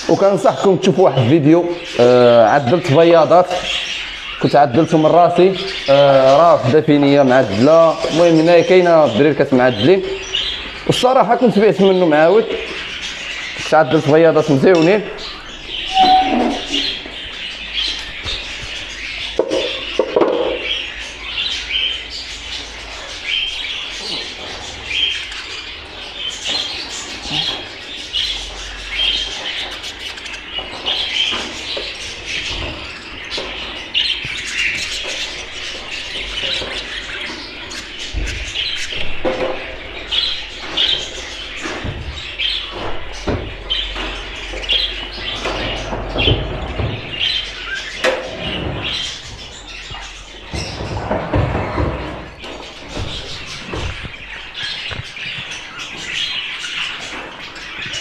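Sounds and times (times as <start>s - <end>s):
budgerigars chirping: 0.0s - 58.0s.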